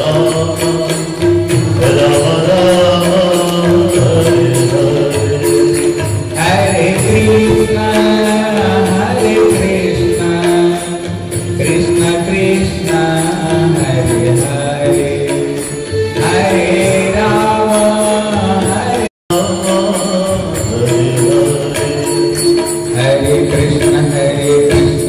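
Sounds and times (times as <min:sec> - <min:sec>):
jingling hand percussion: 0:00.0 - 0:25.0.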